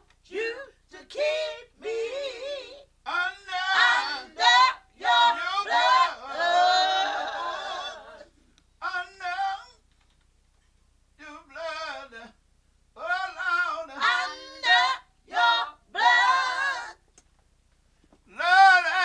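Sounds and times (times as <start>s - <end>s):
unaccompanied gospel singing: 0.0s - 9.9s, 11.2s - 17.1s, 18.2s - 19.0s.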